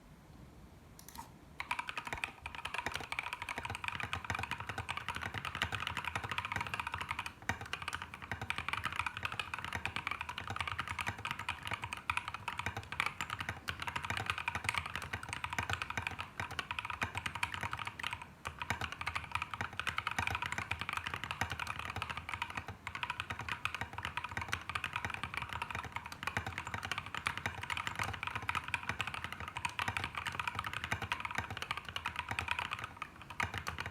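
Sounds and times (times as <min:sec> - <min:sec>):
fast mechanical keyboard typing: 0:01.0 - 0:33.9.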